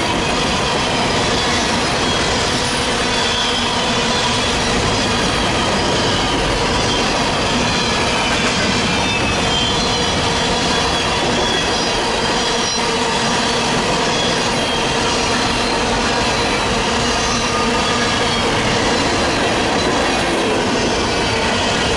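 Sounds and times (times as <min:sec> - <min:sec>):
high wheel squeals: 0:00.1 - 0:21.9.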